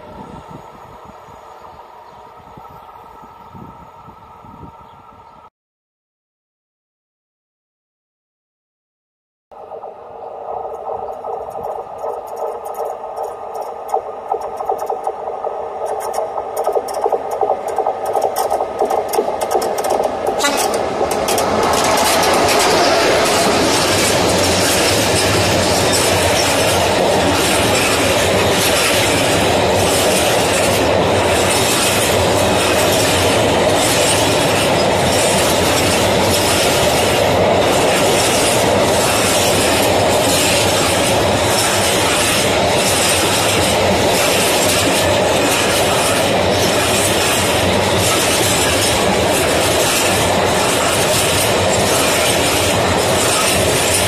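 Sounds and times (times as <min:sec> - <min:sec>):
freight train wheels rumbling: 0:09.6 - 0:54.0
wheels clickety-clack on joints: 0:10.7 - 0:54.0.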